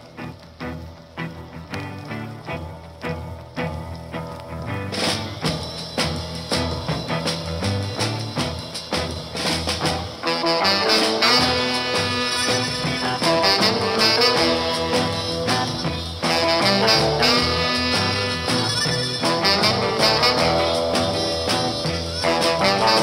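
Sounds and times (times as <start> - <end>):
instrumental soul music with horns: 0.0 - 23.0.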